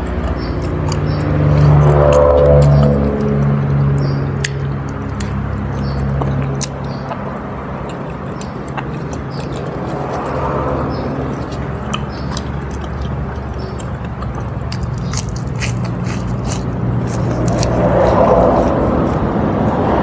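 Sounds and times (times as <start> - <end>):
person chewing crunchy food: 0.0 - 20.0
steady low hum: 0.0 - 20.0.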